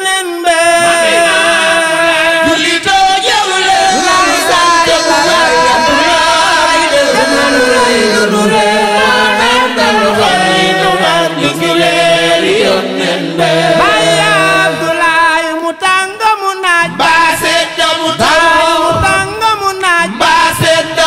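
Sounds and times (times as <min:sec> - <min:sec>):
voices singing a religious chant: 0:00.0 - 0:21.0.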